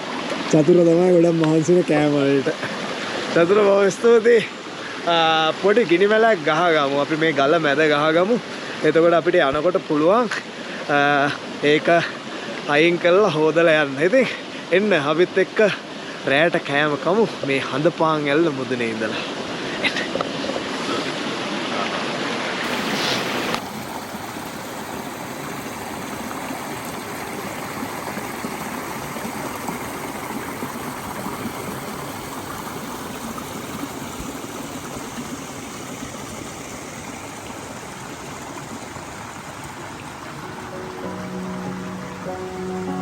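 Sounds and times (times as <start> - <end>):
waterfall rushing water: 0.0 - 43.0.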